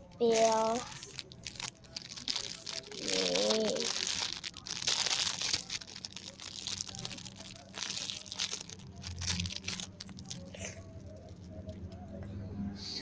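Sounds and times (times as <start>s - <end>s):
squishy toy crinkling and rustling: 0.0s - 11.9s.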